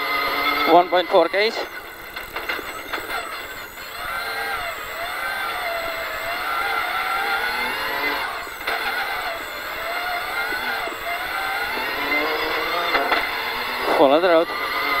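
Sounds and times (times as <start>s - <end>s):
car engine revving: 0.0s - 15.0s
road noise: 0.0s - 15.0s.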